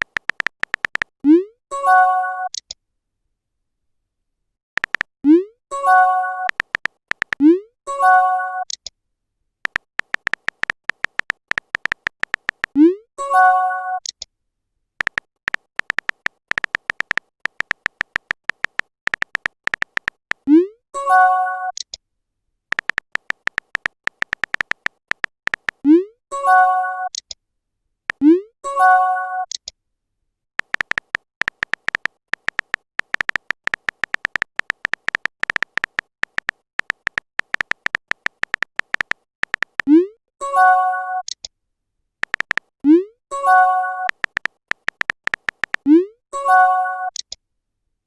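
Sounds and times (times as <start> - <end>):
short high beep-like typing ticks: 0.0 - 2.7, 4.8 - 8.8, 9.7 - 14.2, 15.0 - 21.9, 22.7 - 27.3, 30.6 - 41.4, 42.2 - 47.4.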